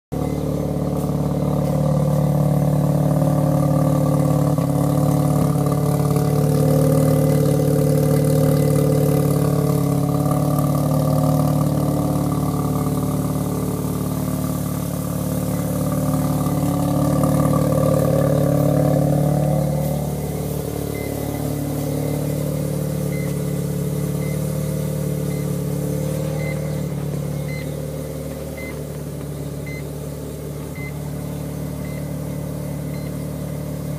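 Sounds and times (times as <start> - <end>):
faint beep: 0.1 - 33.9
rotary engine running: 0.1 - 33.9.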